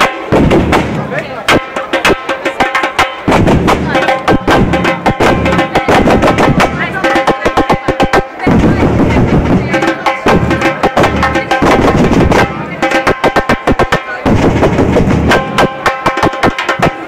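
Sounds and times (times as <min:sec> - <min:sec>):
bass drums struck with mallets: 0:00.0 - 0:02.2, 0:03.0 - 0:17.0
samba drum section playing: 0:00.0 - 0:17.0.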